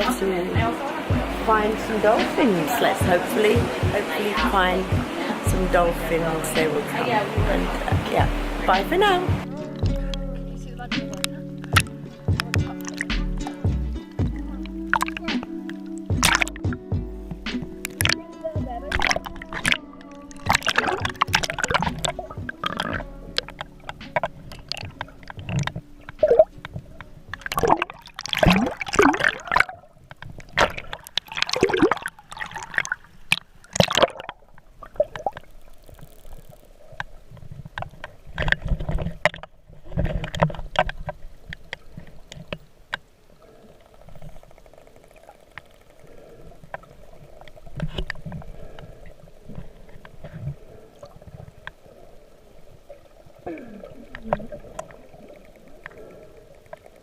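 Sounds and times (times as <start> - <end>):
sea water splashing and gurgling: 0.0 - 10.3, 10.9 - 57.0.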